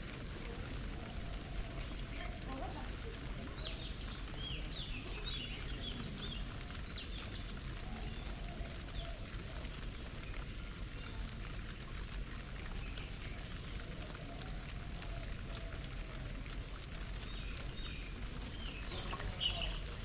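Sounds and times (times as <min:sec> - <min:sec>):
birds splashing in water: 0:00.1 - 0:20.0.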